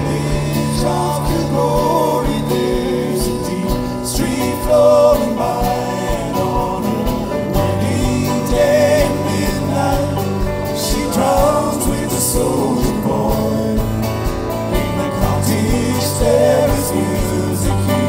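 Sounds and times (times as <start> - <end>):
folk band playing live: 0.0 - 18.0
voices singing: 0.0 - 18.0.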